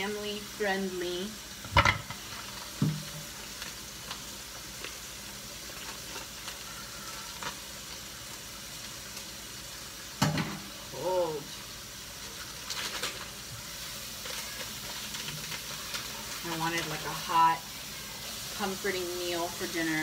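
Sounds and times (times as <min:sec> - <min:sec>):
tap water running: 0:00.0 - 0:20.0
vegetables sizzling in oil: 0:00.0 - 0:20.0.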